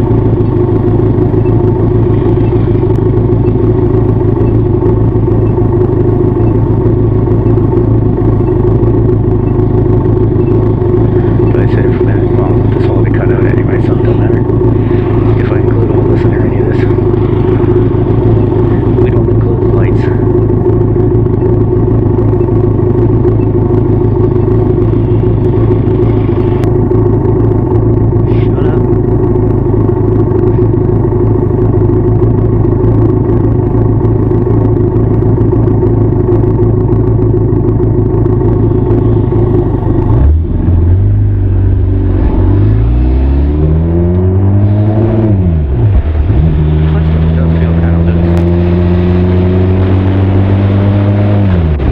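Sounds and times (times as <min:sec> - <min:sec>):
motorcycle engine and exhaust: 0:00.0 - 0:51.9.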